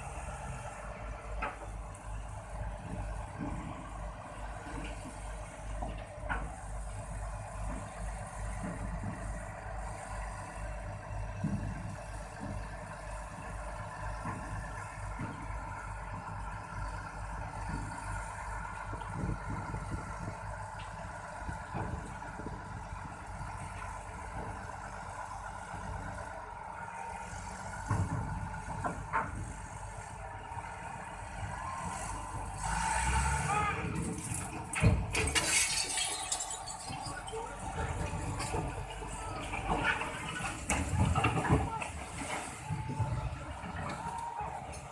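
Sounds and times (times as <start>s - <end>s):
bulldozer diesel engine rumbling: 0.0s - 44.9s.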